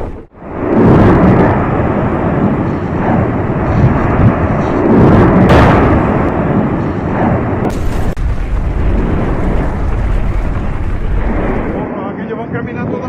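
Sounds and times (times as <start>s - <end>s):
volcanic blast: 0.0s - 12.4s
volcanic rumbling: 0.0s - 13.0s.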